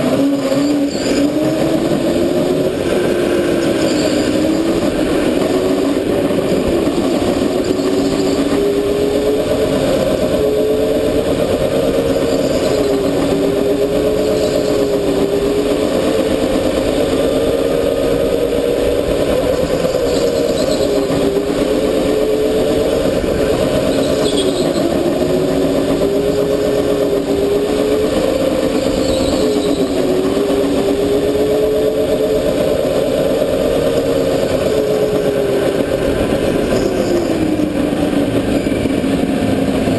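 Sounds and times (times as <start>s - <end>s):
go-kart motor running hard: 0.0s - 39.9s.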